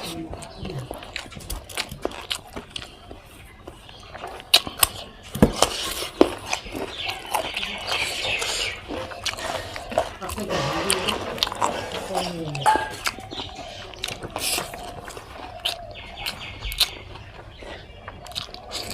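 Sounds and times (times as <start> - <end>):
person chewing food: 0.0 - 18.9.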